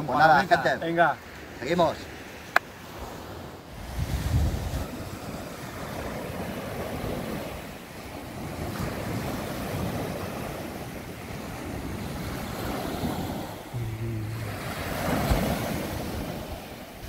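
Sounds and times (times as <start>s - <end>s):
small waves washing on shore: 0.0s - 17.0s.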